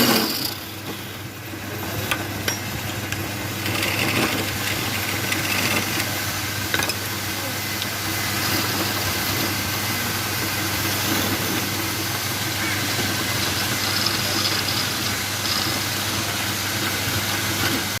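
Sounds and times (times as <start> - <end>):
lathe motor humming: 0.0 - 18.0.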